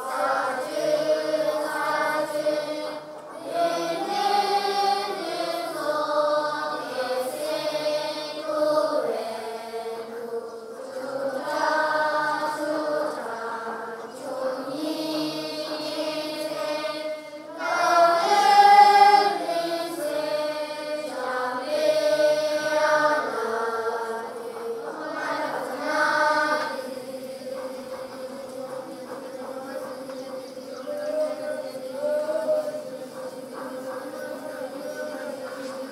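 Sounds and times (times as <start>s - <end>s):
children chanting in unison: 0.0s - 35.9s.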